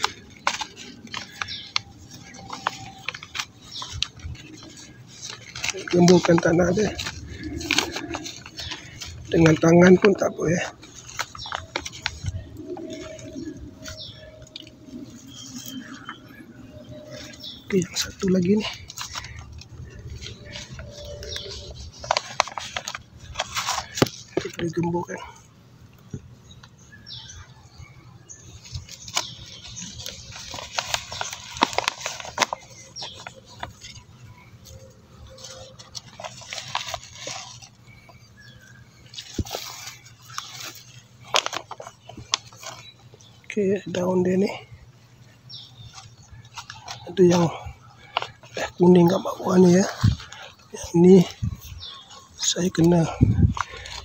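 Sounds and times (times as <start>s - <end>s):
bird calling: 0.0s - 54.0s
soil rustling in plastic bag: 0.0s - 54.0s.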